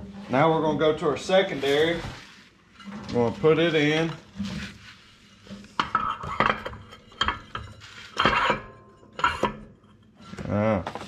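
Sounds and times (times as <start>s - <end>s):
metal clanks and scraping: 0.0s - 11.0s.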